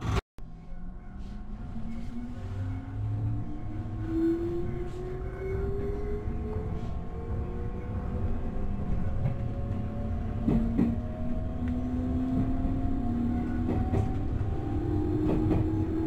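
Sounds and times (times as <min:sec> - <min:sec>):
train rumbling: 0:00.8 - 0:16.0.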